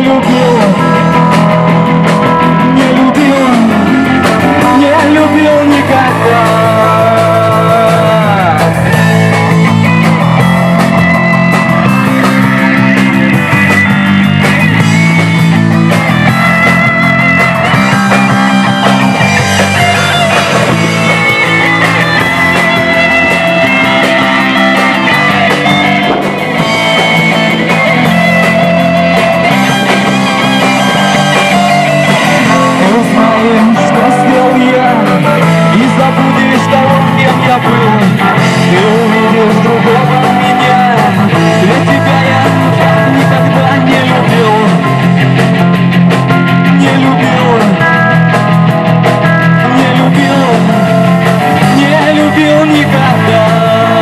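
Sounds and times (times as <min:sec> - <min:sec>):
rock song guitar instrumental: 0:00.0 - 0:54.0.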